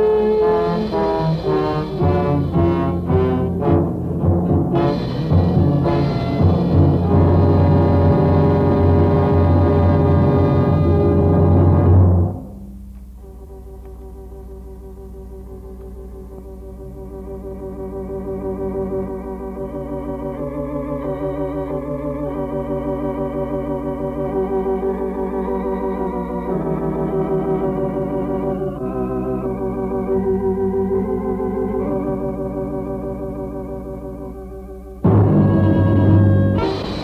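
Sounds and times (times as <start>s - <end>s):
slow organ chords with tremolo: 0.0s - 37.0s.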